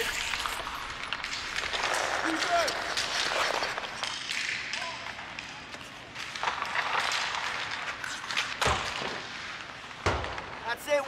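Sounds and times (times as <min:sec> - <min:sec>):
skate blades scraping ice: 0:00.0 - 0:10.6
sticks and puck clacking: 0:00.0 - 0:11.0.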